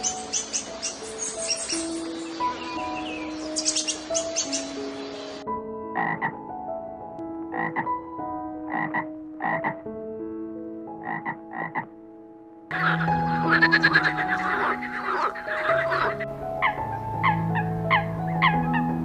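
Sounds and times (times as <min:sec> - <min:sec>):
music with long held notes: 0:00.0 - 0:19.0.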